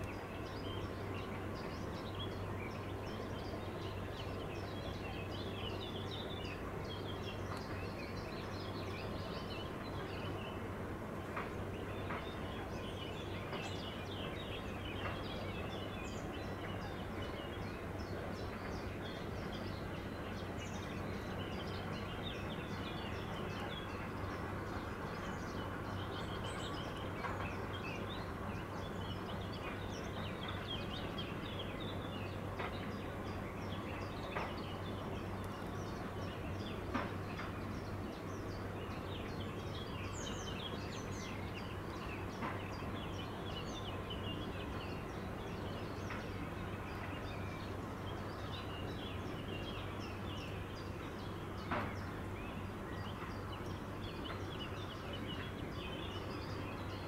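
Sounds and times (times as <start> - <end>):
small birds chirping and singing: 0.0 - 57.0.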